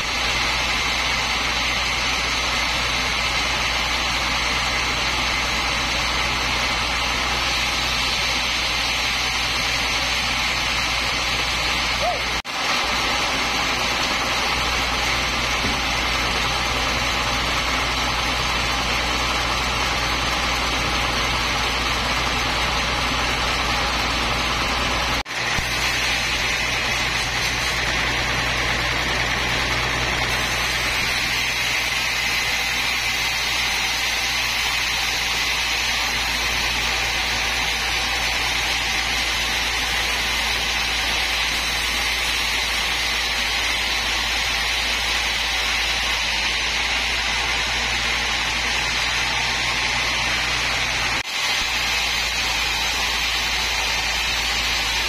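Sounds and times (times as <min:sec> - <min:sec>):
band sawmill motor humming: 0:00.0 - 0:55.0.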